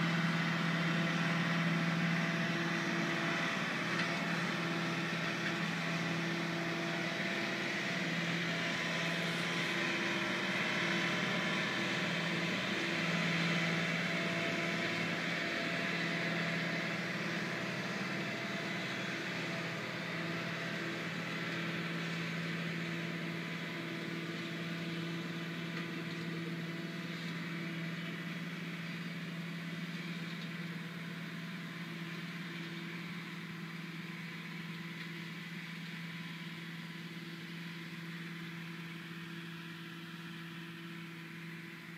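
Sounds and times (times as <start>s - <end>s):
diesel engine humming: 0.0s - 41.9s.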